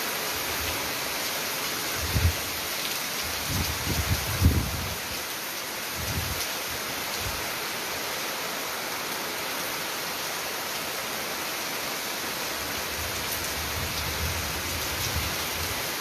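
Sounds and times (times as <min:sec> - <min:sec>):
rain pouring: 0:00.0 - 0:16.0.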